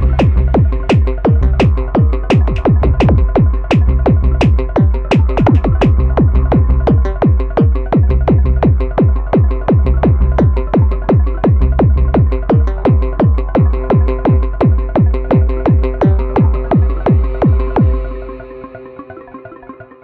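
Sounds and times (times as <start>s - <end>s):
kick drum: 0.0s - 18.1s
sustained synth tones: 0.0s - 20.0s.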